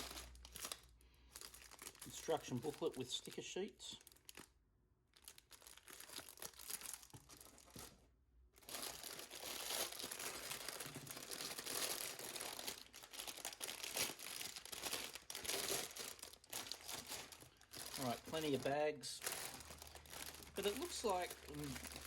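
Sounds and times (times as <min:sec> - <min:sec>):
plastic bags crinkling: 0:00.0 - 0:08.0, 0:08.6 - 0:22.0.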